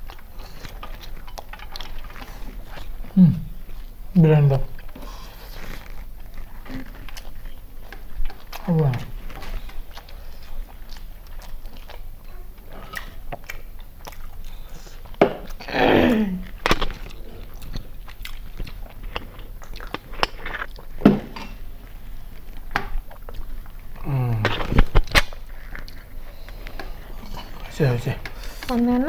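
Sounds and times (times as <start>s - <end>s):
chewing and mouth sounds: 0.0s - 29.0s.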